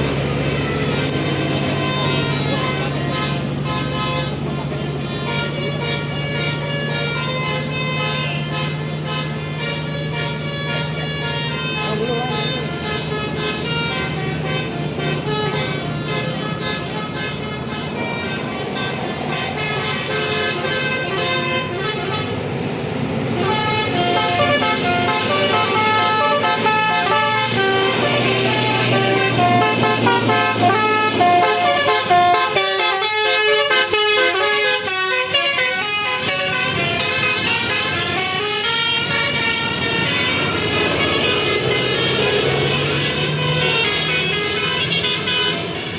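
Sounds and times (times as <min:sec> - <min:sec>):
musical bus air horn melody: 0:00.0 - 0:45.9.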